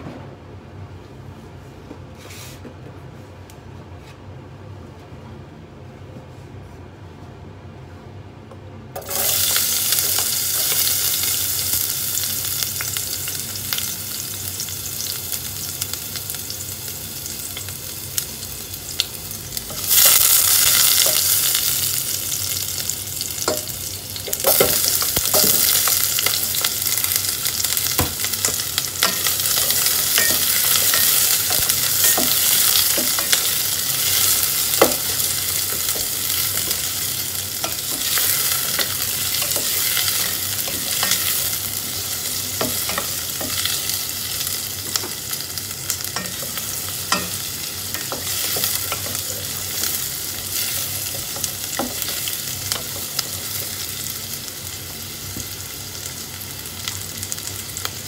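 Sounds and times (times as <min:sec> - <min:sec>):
garlic sizzling in hot oil: 0:09.0 - 0:58.0.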